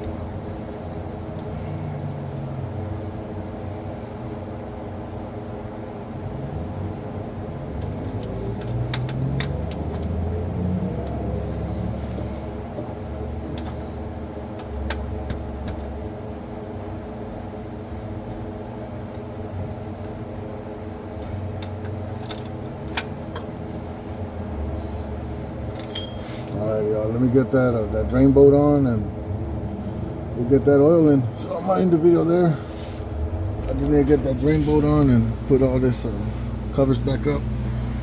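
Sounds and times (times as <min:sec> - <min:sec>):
mechanical hum with low rumble: 0:00.0 - 0:38.0.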